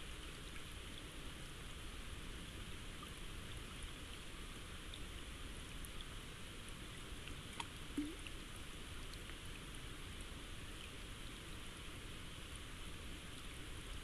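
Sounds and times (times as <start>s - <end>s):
rain falling on river: 0.0s - 14.0s.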